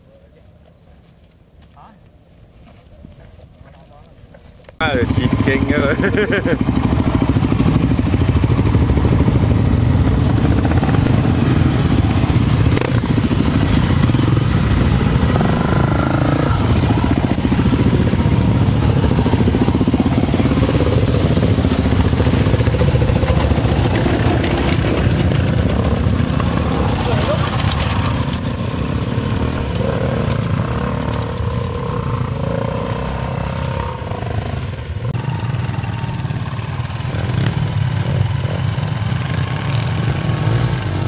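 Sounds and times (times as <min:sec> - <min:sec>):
motorcycle engines running: 0:04.8 - 0:41.0.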